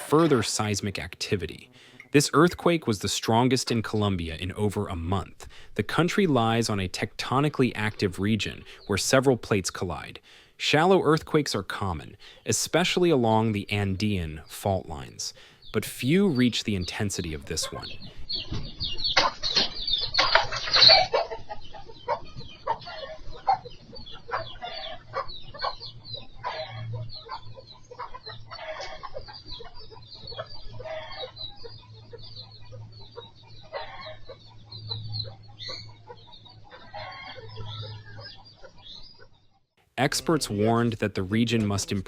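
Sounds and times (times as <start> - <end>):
birds squawking and clucking: 0.0 - 42.0.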